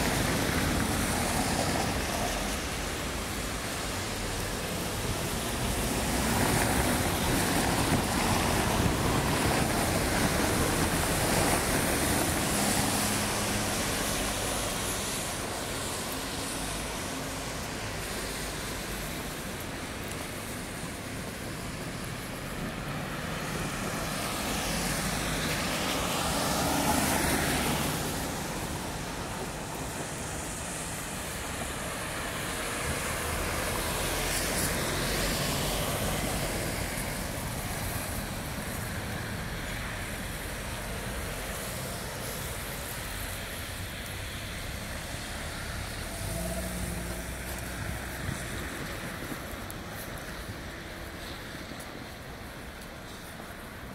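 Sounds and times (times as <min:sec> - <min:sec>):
rain falling on street: 0:00.0 - 0:53.9
vehicle passing on wet road: 0:00.0 - 0:53.9.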